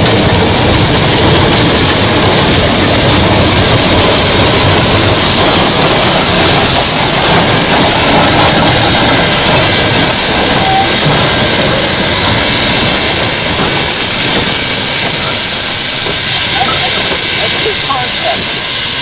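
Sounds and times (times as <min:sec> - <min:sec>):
high-pitched whine: 0:00.0 - 0:19.0
steam locomotive exhaust roar: 0:00.0 - 0:19.0.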